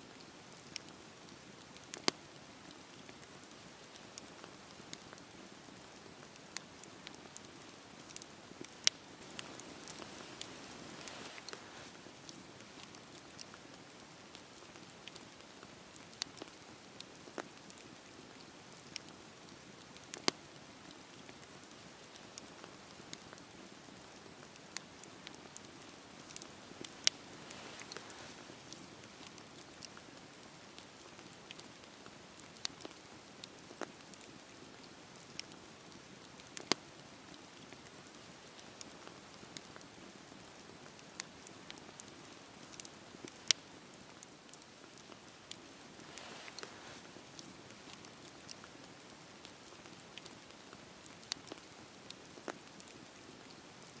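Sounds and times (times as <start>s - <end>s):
campfire crackling and hissing: 0.0s - 54.0s
wood crackles and pops: 0.1s - 53.9s.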